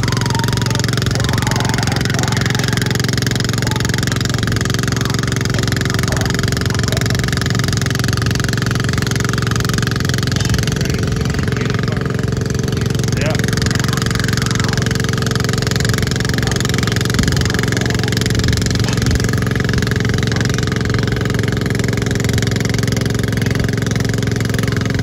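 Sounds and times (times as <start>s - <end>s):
small tractor engines droning: 0.0s - 25.0s.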